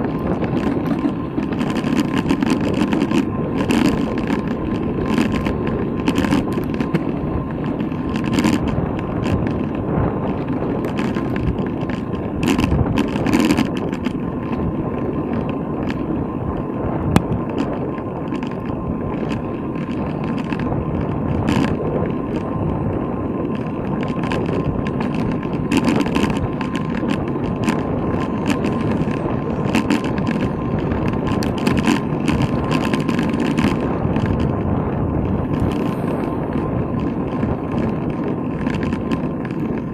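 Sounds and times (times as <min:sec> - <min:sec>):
bicycle tyre rumble: 0:00.0 - 0:39.9
bike rattles and clicks: 0:00.0 - 0:39.9
wind on microphone: 0:00.0 - 0:39.9.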